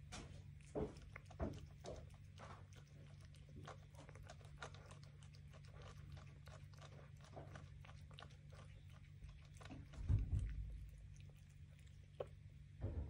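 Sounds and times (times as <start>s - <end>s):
cat chewing food: 0.0s - 13.0s.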